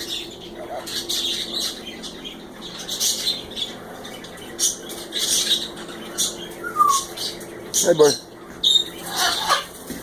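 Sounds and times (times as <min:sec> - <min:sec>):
parrots squawking: 0:00.0 - 0:09.9.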